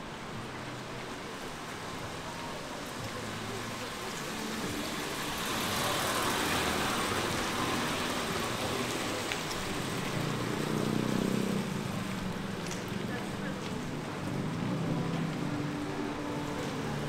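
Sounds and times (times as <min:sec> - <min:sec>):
rain-soaked street noise: 0:00.0 - 0:17.0
tyre hiss on wet road: 0:00.3 - 0:14.4.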